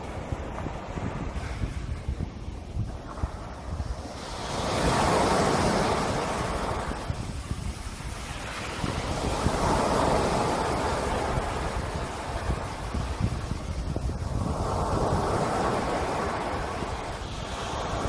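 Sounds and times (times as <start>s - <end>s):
sea waves breaking: 0.0s - 18.0s
wind on microphone: 0.0s - 18.0s.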